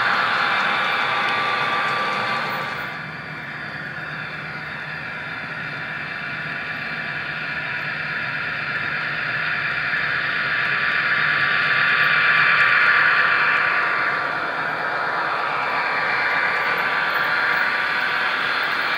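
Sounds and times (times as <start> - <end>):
model train running on track: 0.0 - 18.9.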